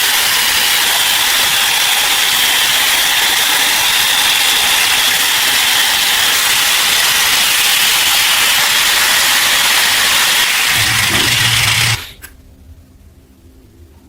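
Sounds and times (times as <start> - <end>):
loud steady hiss: 0.0 - 12.3.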